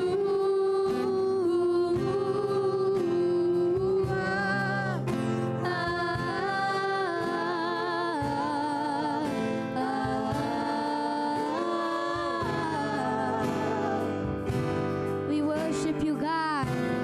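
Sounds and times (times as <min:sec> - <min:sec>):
acoustic guitar: 0:00.0 - 0:17.0
voices singing in harmony: 0:00.0 - 0:17.0.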